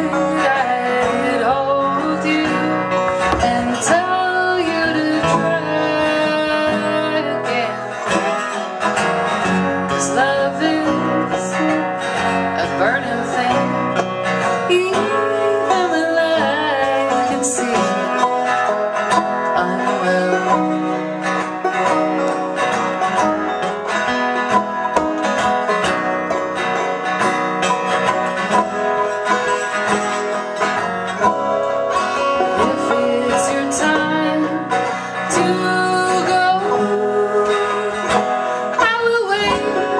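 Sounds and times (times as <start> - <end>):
plucked string instruments playing: 0.0 - 39.9.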